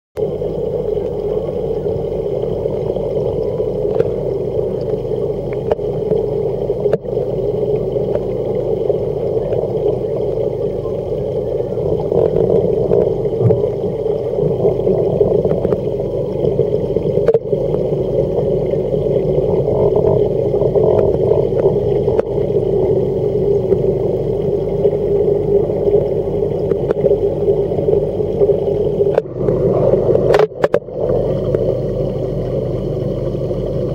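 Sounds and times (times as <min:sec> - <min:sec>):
aquarium pump hum: 0:00.2 - 0:33.9
rushing water: 0:00.2 - 0:33.9.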